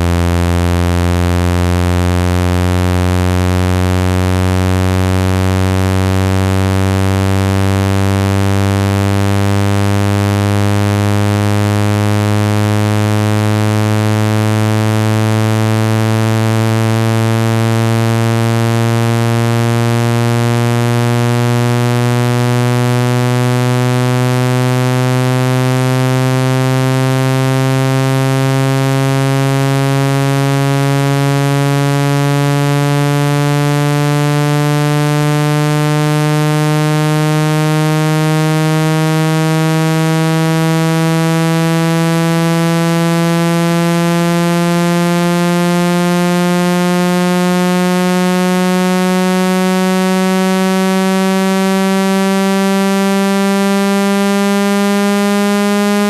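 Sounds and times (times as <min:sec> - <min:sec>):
low synthesized tone rising in pitch: 0:00.0 - 0:56.0.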